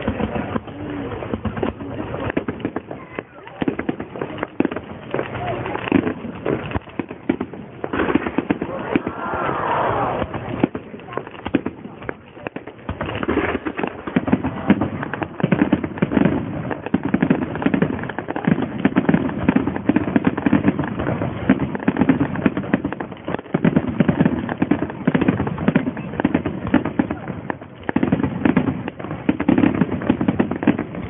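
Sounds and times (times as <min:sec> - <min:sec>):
fireworks bursting and crackling: 0:00.0 - 0:31.0.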